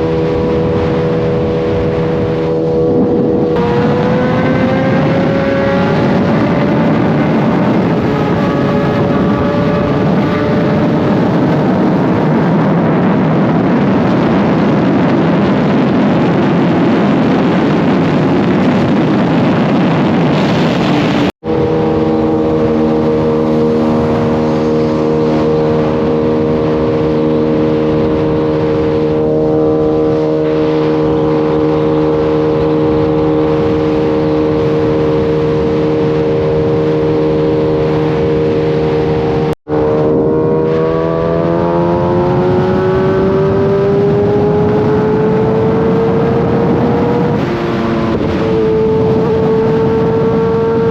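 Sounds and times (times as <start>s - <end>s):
heavy wind rush: 0.0s - 50.9s
motorcycle engine: 0.0s - 50.9s.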